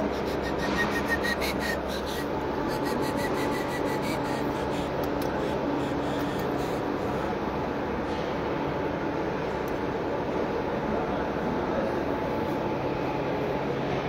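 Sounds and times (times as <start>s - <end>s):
amplifier fan noise: 0.0s - 14.0s.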